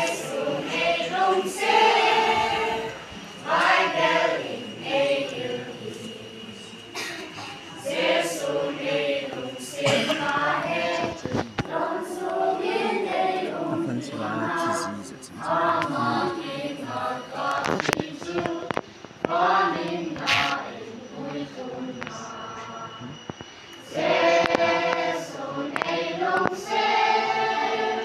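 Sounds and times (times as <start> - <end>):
children's choir singing: 0.0 - 28.0.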